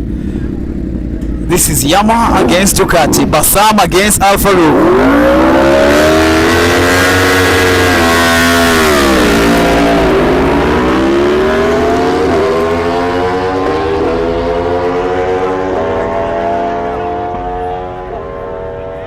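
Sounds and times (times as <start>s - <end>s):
motorcycles accelerating hard: 0.0s - 19.0s.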